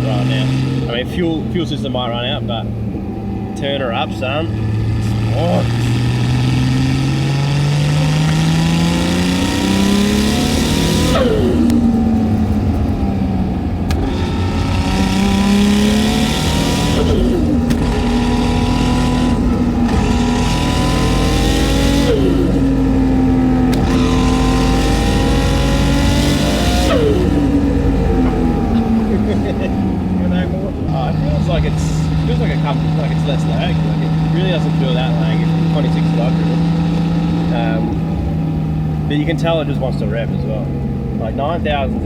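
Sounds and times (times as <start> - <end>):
car engine accelerating through gears: 0.0 - 42.0.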